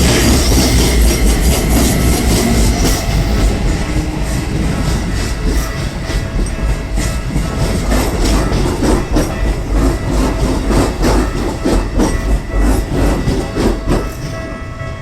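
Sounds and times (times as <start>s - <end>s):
train rumbling past: 0.0s - 15.0s
wheels clacking over rail joints: 0.0s - 15.0s.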